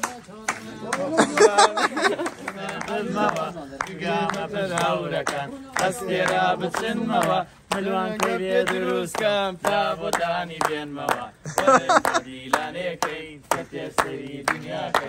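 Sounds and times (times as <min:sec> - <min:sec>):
hands clapping a steady beat: 0:00.0 - 0:15.0
men singing together: 0:00.5 - 0:15.0.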